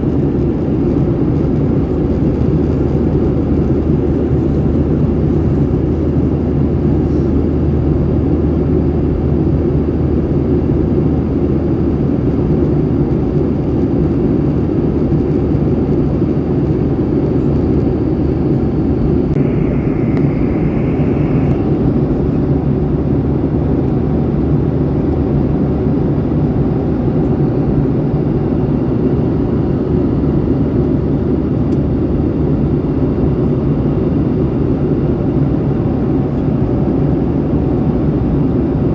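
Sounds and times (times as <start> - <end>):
jet engine cabin noise: 0.0 - 38.9.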